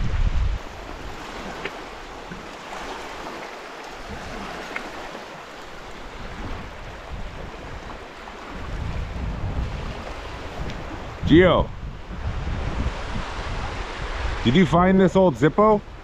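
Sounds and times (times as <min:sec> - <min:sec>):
surf washing on beach: 0:00.0 - 0:16.0
wind: 0:00.0 - 0:16.0
wind buffeting microphone: 0:00.0 - 0:16.0.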